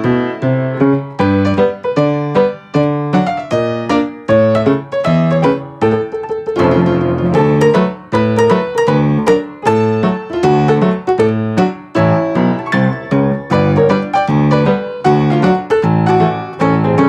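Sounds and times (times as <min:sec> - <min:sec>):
lively piano music: 0:00.0 - 0:17.0.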